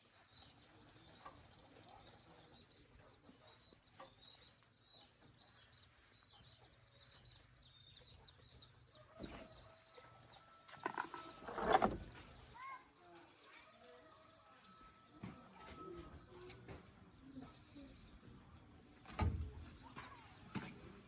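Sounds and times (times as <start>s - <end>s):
faint bird chirping: 0.0s - 18.9s.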